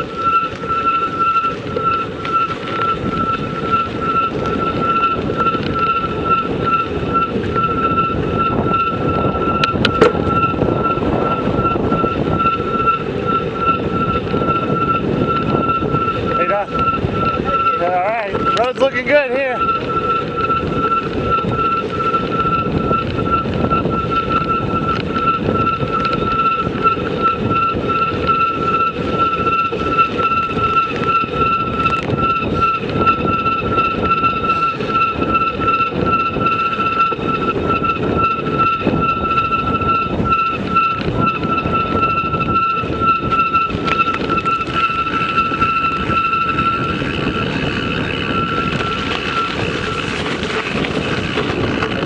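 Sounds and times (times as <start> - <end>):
constant high whine: 0.0 - 52.0
vehicle rumbling and rattling: 0.0 - 52.0.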